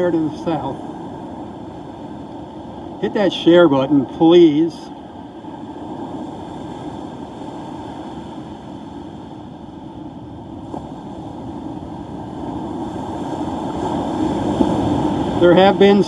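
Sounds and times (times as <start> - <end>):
surf: 0.0 - 16.0
wind on microphone: 0.0 - 16.0.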